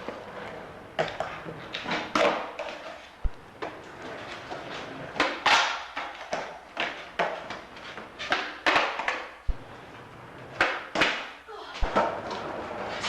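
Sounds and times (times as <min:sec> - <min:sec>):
skateboards knocking and clacking: 0:00.0 - 0:13.0.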